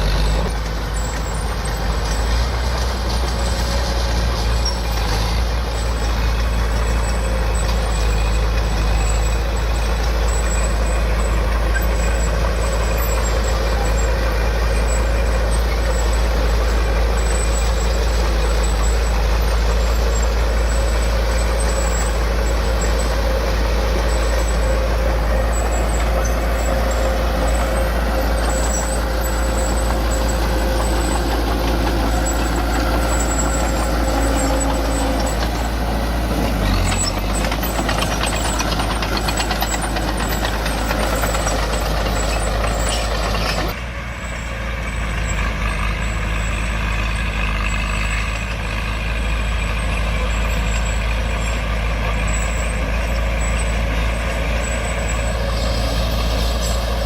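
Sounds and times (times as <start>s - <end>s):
heavy machinery diesel engine rumble: 0.0s - 57.0s.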